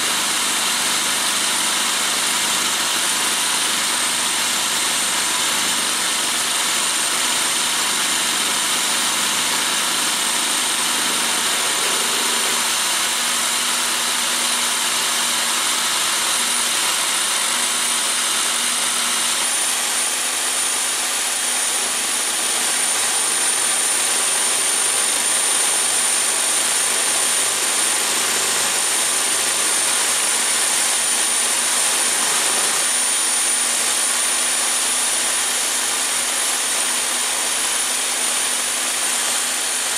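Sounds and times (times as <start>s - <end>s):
cutter rushing through metal: 0.0s - 39.9s
power drill motor whine: 0.0s - 39.9s.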